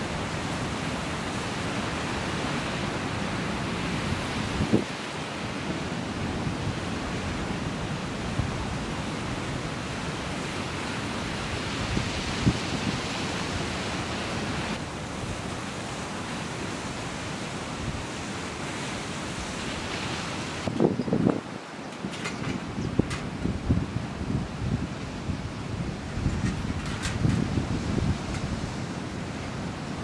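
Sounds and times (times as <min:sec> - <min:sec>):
waves washing on rocky shore: 0:00.0 - 0:30.0
wind: 0:00.0 - 0:30.0.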